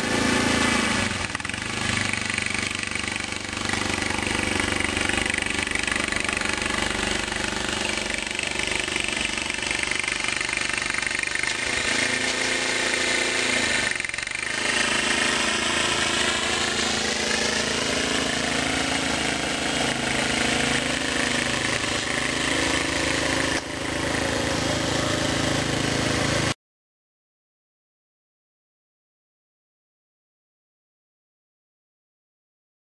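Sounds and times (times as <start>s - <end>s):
snowblower engine running: 0.0s - 26.6s.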